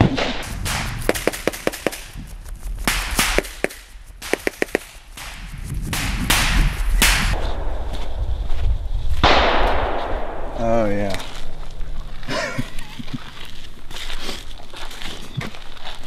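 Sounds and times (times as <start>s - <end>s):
low rumble: 0.0s - 13.6s
footsteps on loose sand: 0.4s - 9.2s, 10.8s - 16.0s.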